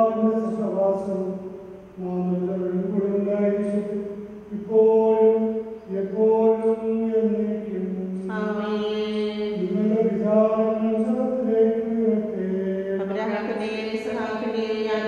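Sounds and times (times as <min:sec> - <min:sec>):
man chanting a prayer: 0:00.0 - 0:15.0.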